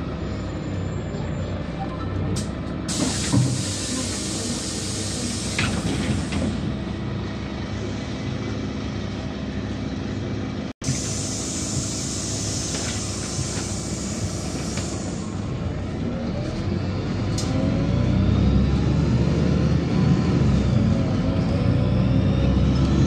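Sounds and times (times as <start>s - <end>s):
bus engine hum: 0.0s - 23.0s.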